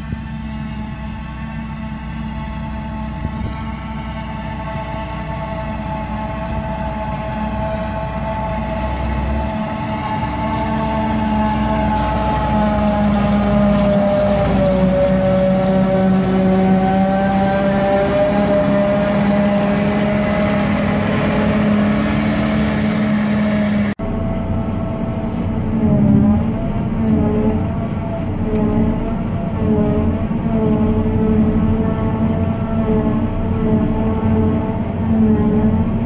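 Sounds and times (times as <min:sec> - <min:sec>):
forage harvester machine drone: 0:00.0 - 0:36.0.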